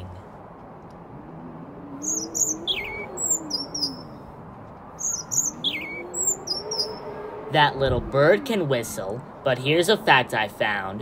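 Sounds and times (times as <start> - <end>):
songbird chirping: 0.0 - 9.8.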